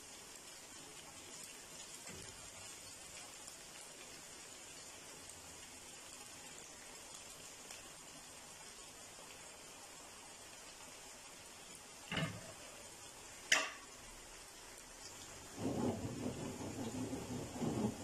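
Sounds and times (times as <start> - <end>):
hot oil sizzling and bubbling: 0.0 - 18.0.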